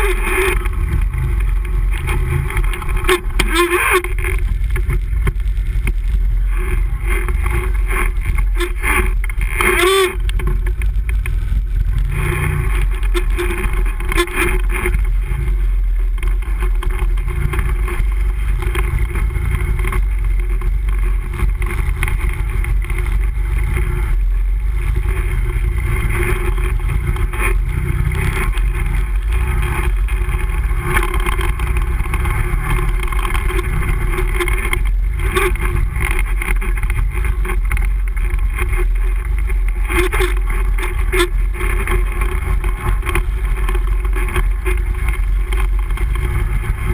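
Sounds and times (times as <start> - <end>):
atv engine running: 0.0 - 46.9.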